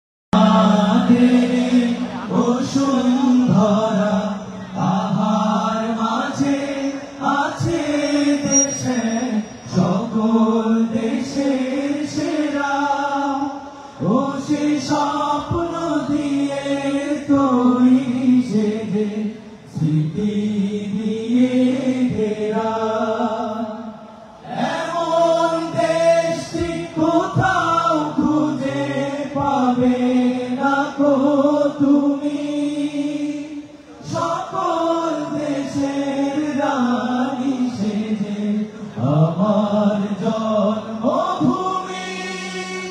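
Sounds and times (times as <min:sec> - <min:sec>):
men singing through loudspeakers: 0:00.3 - 0:42.9.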